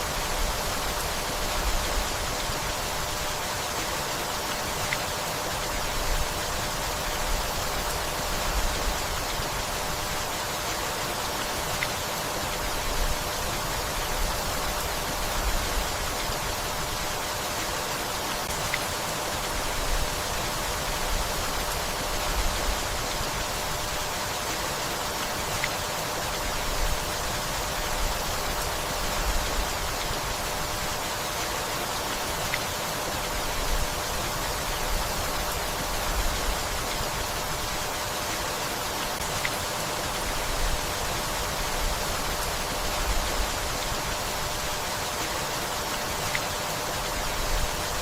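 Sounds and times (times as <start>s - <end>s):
steady rainfall hiss: 0.0s - 48.0s.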